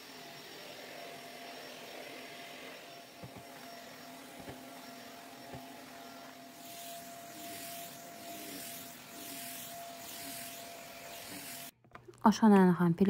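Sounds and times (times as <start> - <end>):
stick vacuum cleaner running: 0.0 - 11.8.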